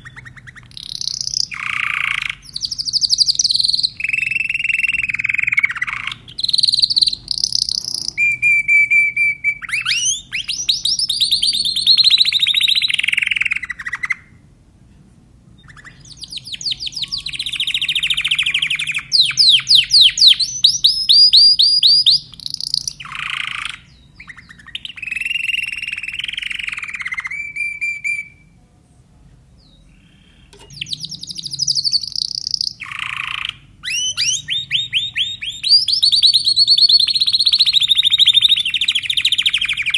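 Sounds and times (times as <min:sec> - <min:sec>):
canary singing trills: 0:00.0 - 0:14.5, 0:15.5 - 0:28.6, 0:29.6 - 0:39.9.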